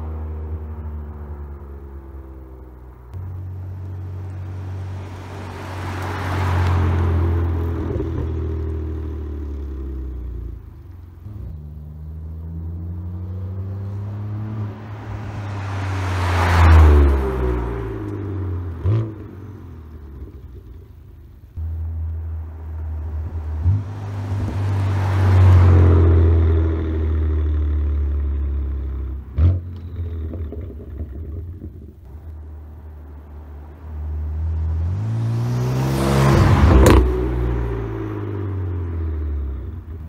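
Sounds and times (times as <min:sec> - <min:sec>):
car engine driving past: 0:00.0 - 0:10.5, 0:11.3 - 0:20.6, 0:21.8 - 0:31.4, 0:32.1 - 0:40.0.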